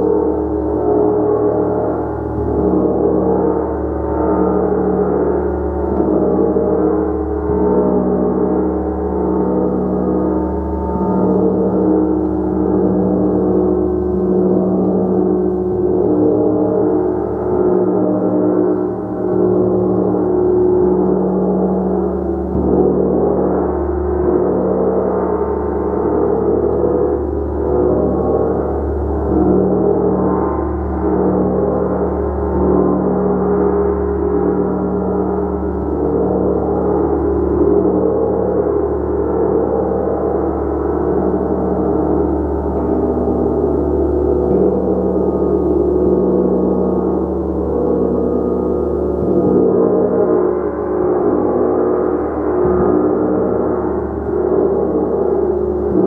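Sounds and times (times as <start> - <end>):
gong ringing: 0.0 - 56.0.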